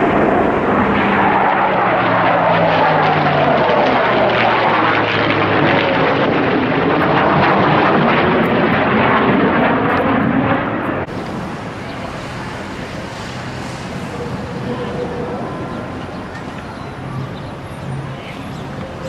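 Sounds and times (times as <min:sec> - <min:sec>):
airplane flying past: 0:00.0 - 0:19.0.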